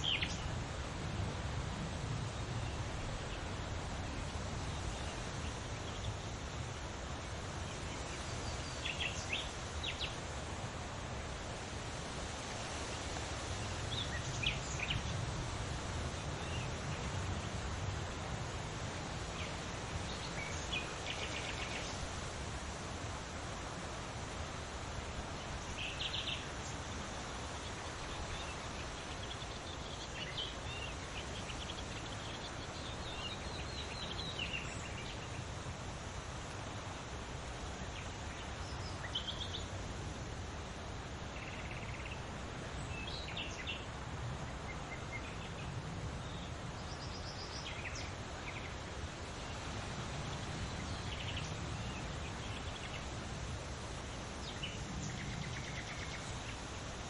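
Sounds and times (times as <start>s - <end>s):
leaves rustling in wind: 0.0s - 57.0s.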